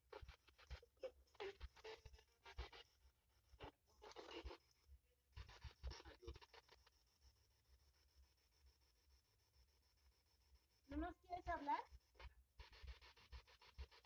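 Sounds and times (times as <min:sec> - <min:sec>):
faint scratching and crackling: 0:00.0 - 0:14.0.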